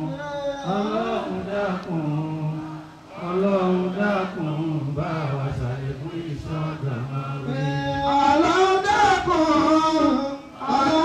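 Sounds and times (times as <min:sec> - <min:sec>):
men chanting: 0:00.0 - 0:11.0.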